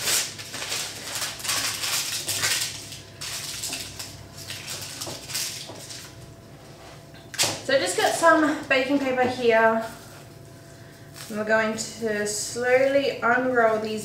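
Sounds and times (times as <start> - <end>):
baking paper rustling and crinkling: 0.0 - 14.0.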